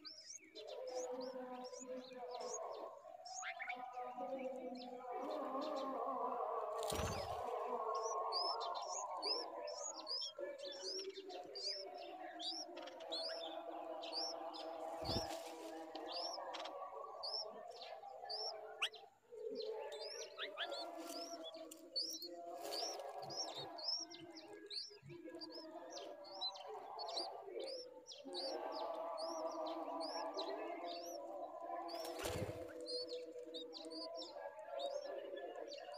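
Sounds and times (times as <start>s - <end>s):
nestlings begging with high chirps: 0.0s - 35.9s.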